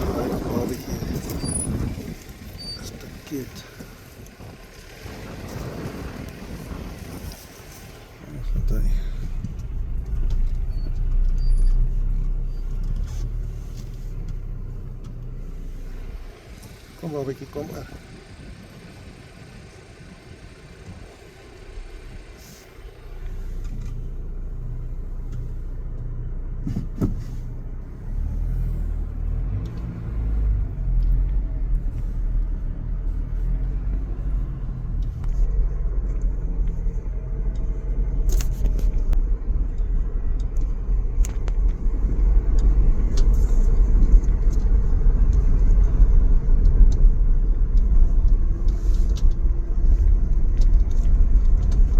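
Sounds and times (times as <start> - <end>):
vehicle engine rumble: 0.0 - 51.9.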